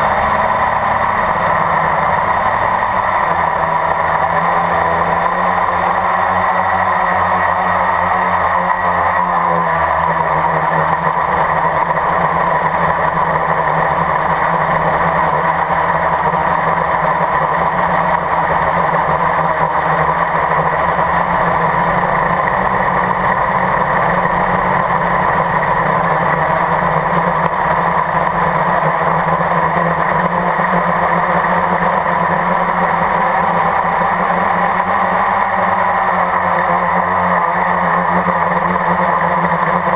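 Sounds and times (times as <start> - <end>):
quadcopter motors and propellers: 0.0 - 39.9.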